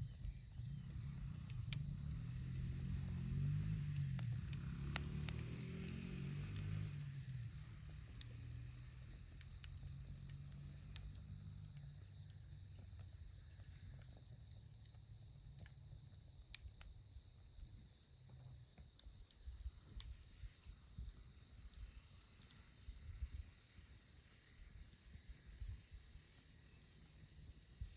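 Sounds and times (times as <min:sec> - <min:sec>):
campfire crackling and popping: 0:00.0 - 0:27.9
insects trilling: 0:00.0 - 0:27.9.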